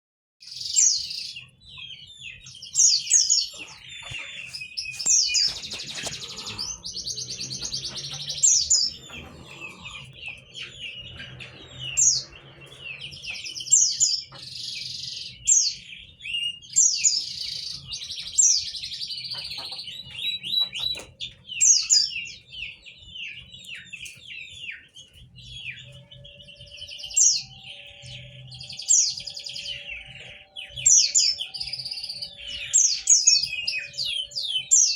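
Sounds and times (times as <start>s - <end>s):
bird twittering song: 0.4s - 34.9s.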